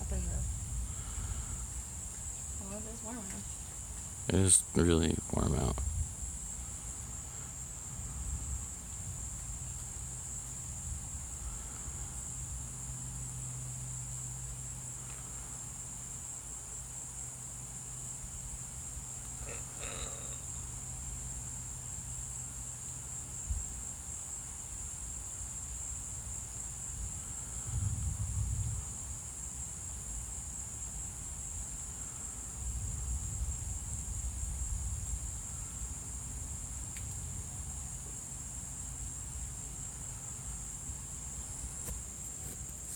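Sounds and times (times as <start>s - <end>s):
crickets chirping: 0.0s - 42.9s.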